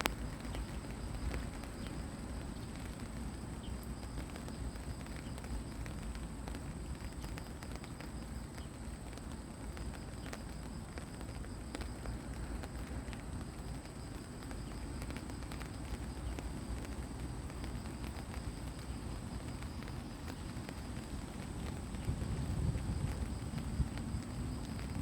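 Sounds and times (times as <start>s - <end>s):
rain pattering on leaves: 0.0s - 25.0s.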